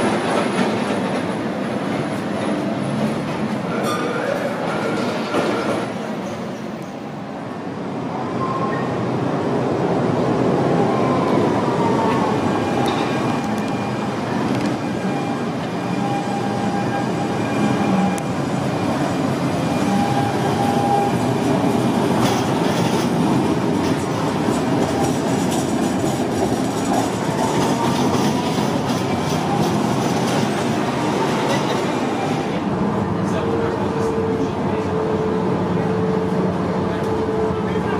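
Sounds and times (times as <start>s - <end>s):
tram wheels rumbling on track: 0.0s - 37.9s.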